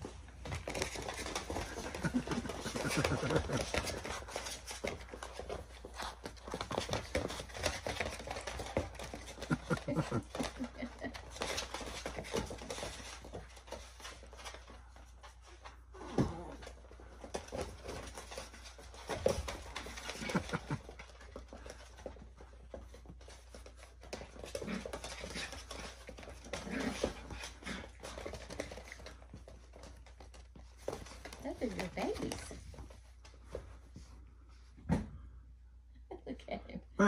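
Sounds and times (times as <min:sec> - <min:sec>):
paws pattering on vinyl floor: 0:00.0 - 0:36.9.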